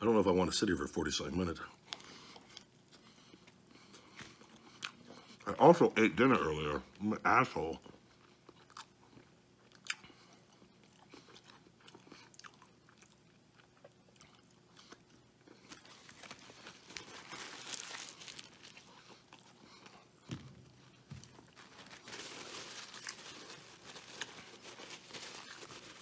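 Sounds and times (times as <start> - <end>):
man chewing burger: 1.7 - 5.6, 7.8 - 26.0.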